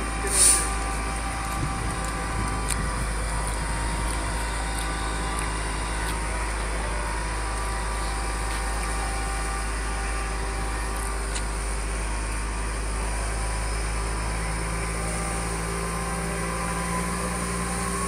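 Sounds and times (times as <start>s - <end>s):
idling engines rumbling: 0.0s - 18.0s.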